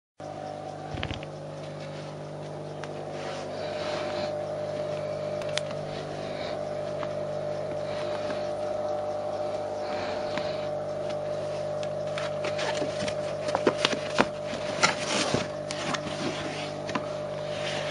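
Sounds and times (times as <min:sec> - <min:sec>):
steady machine hum: 0:00.2 - 0:17.9.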